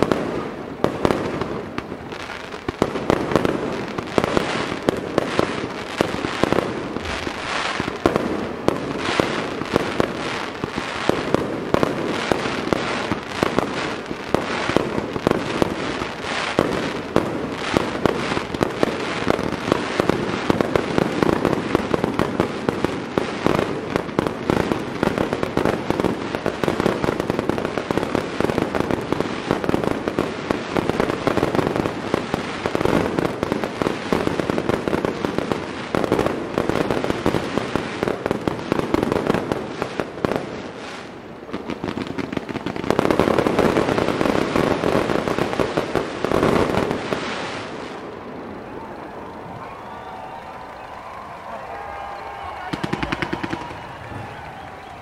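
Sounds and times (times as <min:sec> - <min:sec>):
fireworks bursts and rapid pops: 0:00.0 - 0:55.0.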